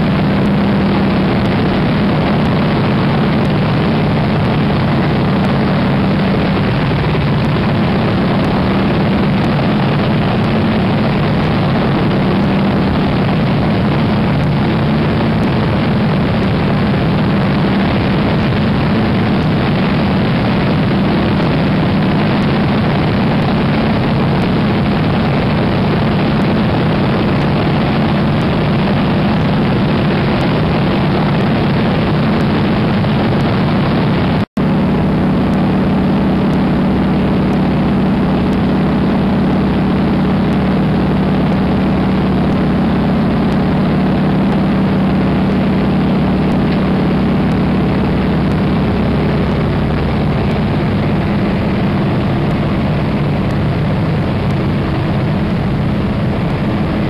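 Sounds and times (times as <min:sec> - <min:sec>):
airflow noise: 0:00.0 - 0:57.0
radial engine and propeller drone: 0:00.0 - 0:57.0.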